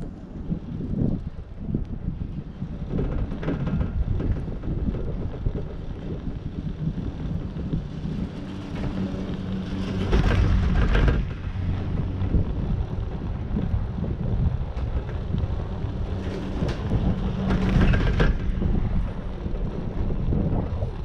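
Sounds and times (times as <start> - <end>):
chairlift hum and rumble: 0.0 - 21.0
wind buffeting microphone: 0.0 - 21.0.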